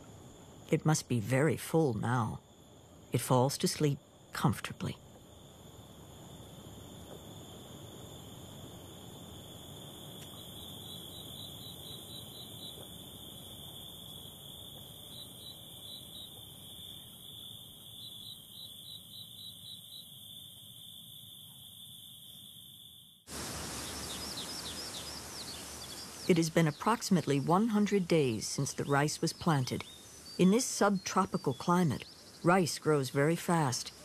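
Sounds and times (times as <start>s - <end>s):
open-air ambience: 0.0s - 34.0s
crickets shrilling: 5.3s - 34.0s.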